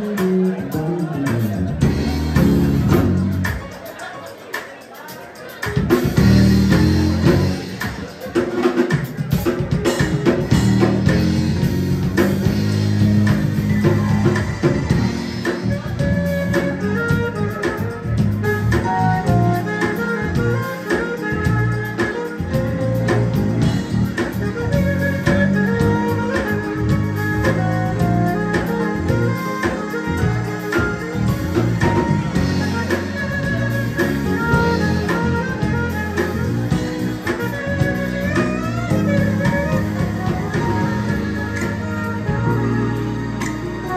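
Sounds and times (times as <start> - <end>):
electric bass guitar: 0.0 - 3.7, 5.8 - 8.0, 8.7 - 43.9
saxophone: 0.0 - 4.4, 5.4 - 43.9
drum kit: 0.0 - 43.9
live band playing: 0.0 - 43.9
stage piano: 0.0 - 43.9.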